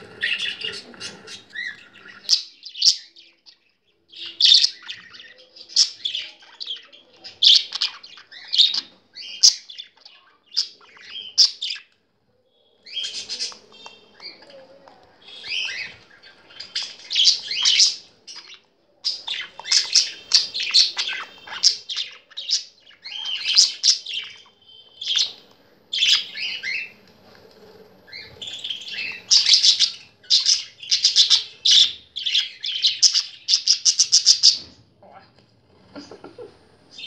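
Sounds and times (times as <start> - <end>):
budgerigars chirping and chattering: 0.0 - 12.0, 12.8 - 14.6, 15.2 - 27.0, 28.1 - 34.9.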